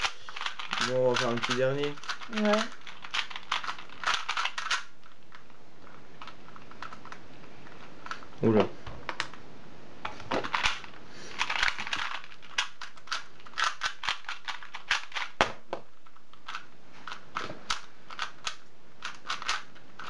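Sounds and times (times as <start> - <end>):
puzzle cube clicking: 0.0 - 9.4, 10.0 - 20.0.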